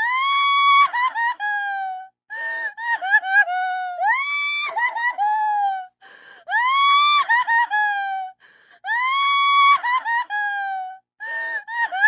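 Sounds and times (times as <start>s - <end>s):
woman crying and sobbing: 0.0s - 12.0s.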